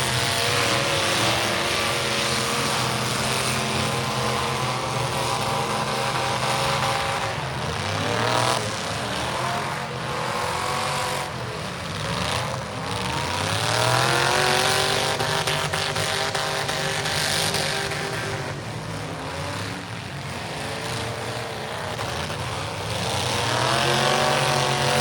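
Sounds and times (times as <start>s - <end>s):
car engines revving hard: 0.0s - 25.0s
din of engines running: 0.0s - 25.0s.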